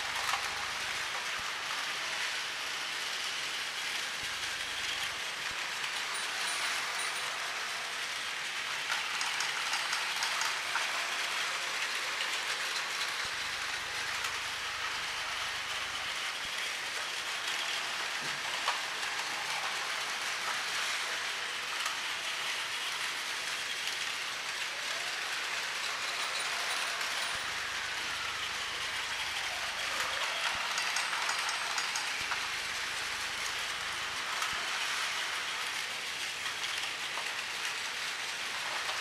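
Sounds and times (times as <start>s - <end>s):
toy train motors whirring: 0.0s - 39.0s
wheels clattering on plastic track: 0.0s - 39.0s.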